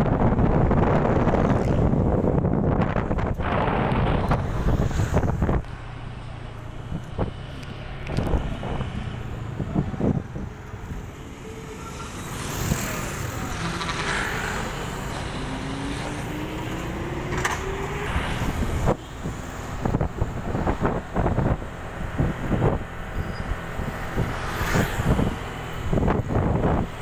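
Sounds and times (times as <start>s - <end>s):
wind buffeting microphone: 0.0s - 11.2s, 14.8s - 27.0s
motorcycle engine rumble: 0.0s - 27.0s.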